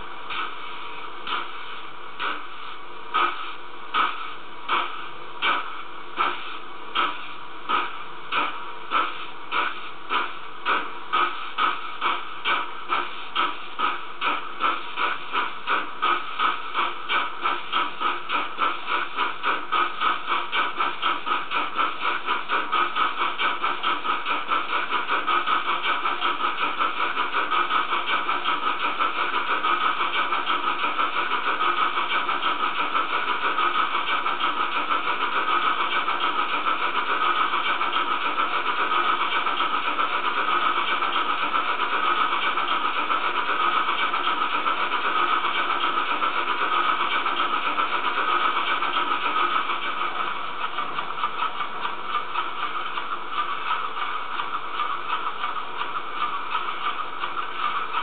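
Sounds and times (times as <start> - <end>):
steady steam hiss: 0.0 - 58.0
steam locomotive exhaust chuffs: 0.0 - 58.0.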